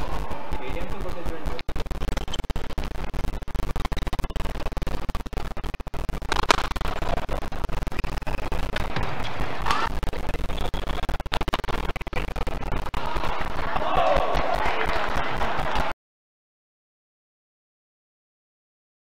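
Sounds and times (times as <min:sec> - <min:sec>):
arena noise: 0:00.0 - 0:16.0.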